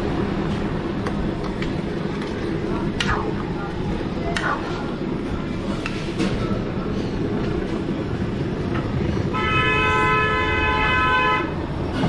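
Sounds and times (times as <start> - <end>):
continuous low rumble: 0.0 - 12.0.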